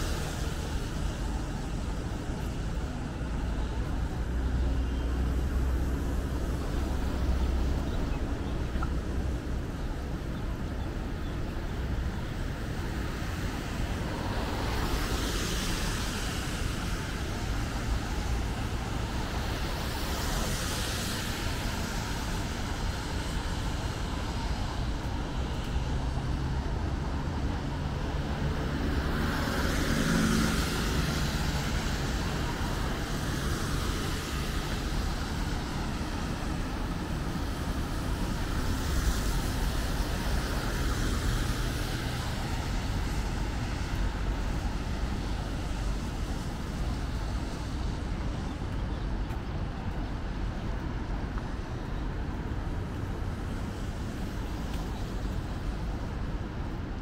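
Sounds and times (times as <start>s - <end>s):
traffic on wet road: 0.0s - 57.0s.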